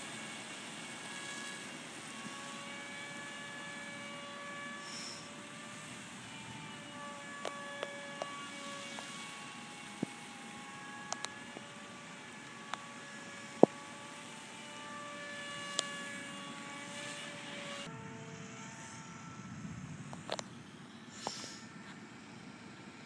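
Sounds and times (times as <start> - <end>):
model plane propeller whine: 0.0 - 23.0.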